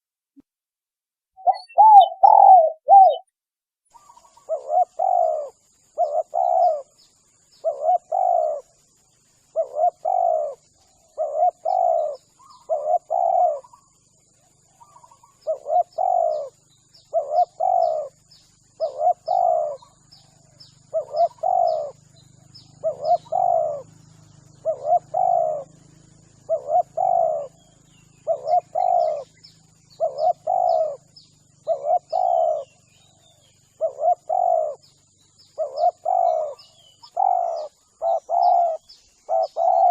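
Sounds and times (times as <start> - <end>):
dove cooing: 1.4 - 3.2, 4.0 - 39.9
faint high-pitched chirps: 1.4 - 3.3, 3.9 - 39.9.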